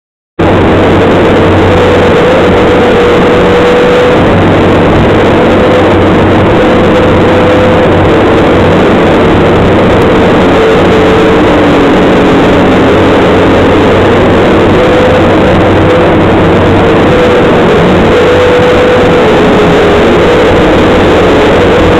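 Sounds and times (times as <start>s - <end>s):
diesel engine running: 0.4s - 21.9s
engine whine: 0.4s - 21.9s.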